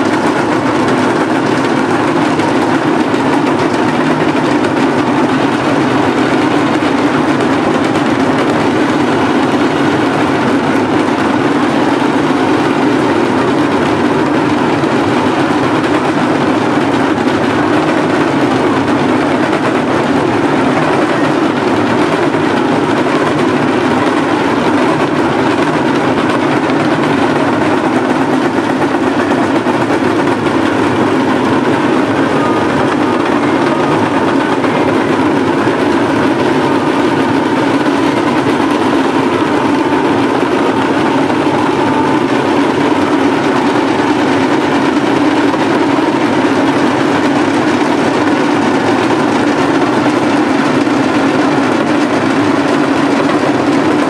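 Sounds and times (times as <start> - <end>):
large crowd din: 0.0 - 54.0.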